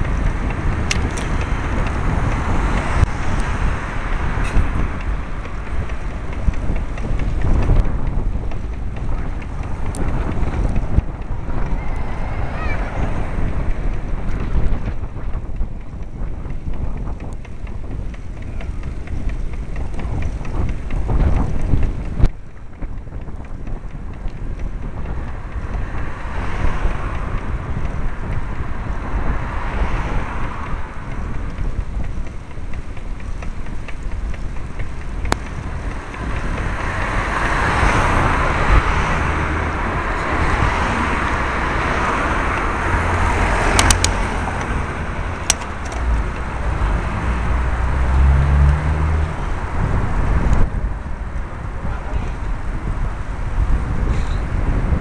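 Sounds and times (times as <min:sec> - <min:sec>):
cars passing: 0:00.0 - 0:55.0
road noise rumble: 0:00.0 - 0:55.0
wind buffeting microphone: 0:00.0 - 0:55.0.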